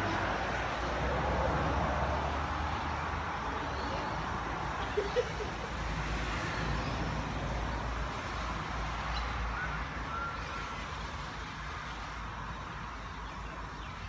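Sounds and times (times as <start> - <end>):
outdoor background rumble and hiss: 0.0 - 14.0.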